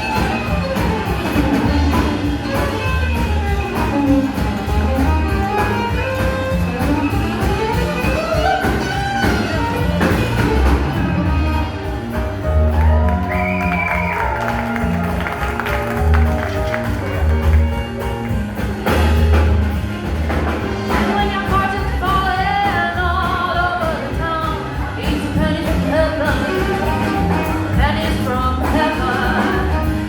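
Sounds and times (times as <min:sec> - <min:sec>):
jazz band playing: 0:00.0 - 0:30.0.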